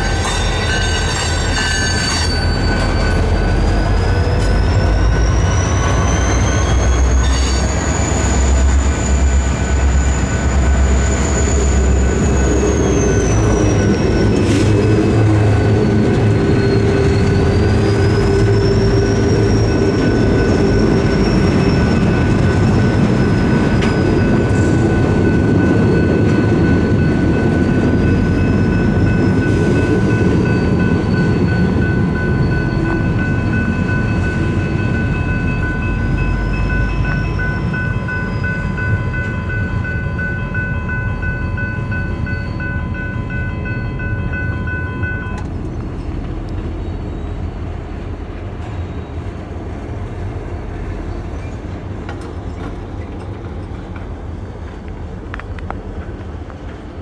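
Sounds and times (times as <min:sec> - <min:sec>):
crossing bell ringing: 0:00.0 - 0:46.2
freight train rumbling: 0:00.0 - 0:57.0.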